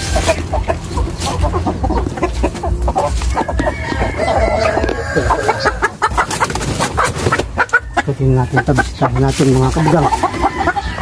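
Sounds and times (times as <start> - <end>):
hens clucking and squawking: 0.0 - 11.0.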